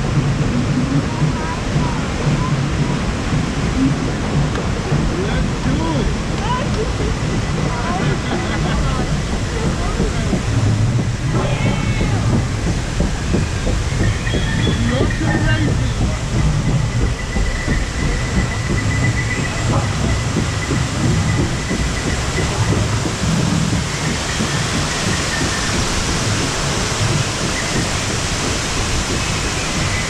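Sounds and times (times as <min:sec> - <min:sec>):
low rumble: 0:00.0 - 0:30.0
rushing river water: 0:00.0 - 0:30.0
steady high whine: 0:00.0 - 0:30.0.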